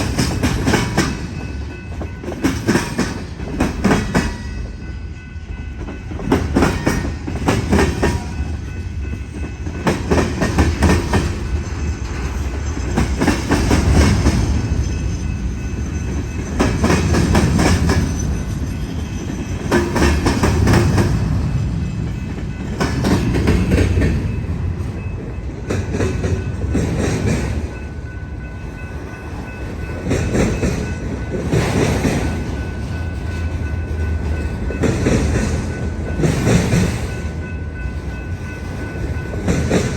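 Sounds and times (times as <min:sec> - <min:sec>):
train rolling rumble: 0:00.0 - 0:39.9
train wheels clattering over crossing: 0:00.0 - 0:39.9.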